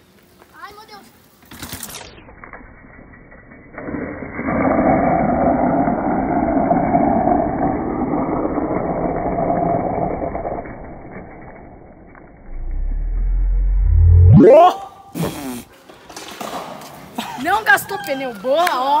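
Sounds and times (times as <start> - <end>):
mountain bike tyre noise: 0.0 - 19.0.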